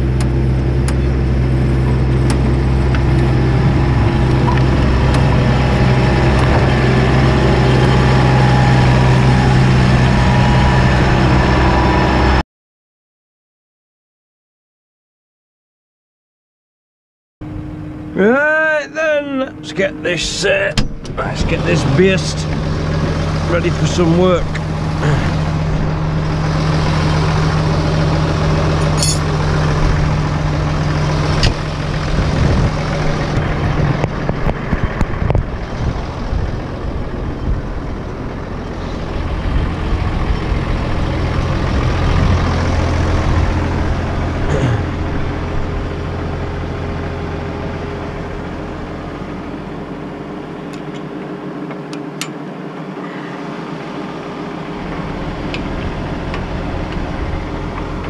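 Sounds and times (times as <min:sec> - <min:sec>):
tractor diesel engine idling: 0:00.0 - 0:12.4, 0:17.5 - 0:58.0.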